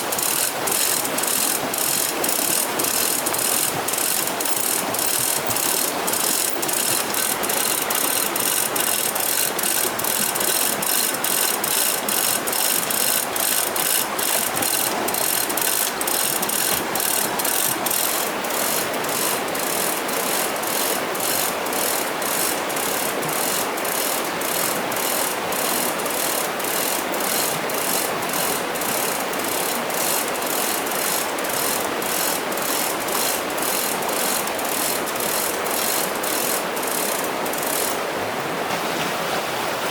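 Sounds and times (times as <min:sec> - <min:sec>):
mechanical clicking: 0:00.0 - 0:38.0.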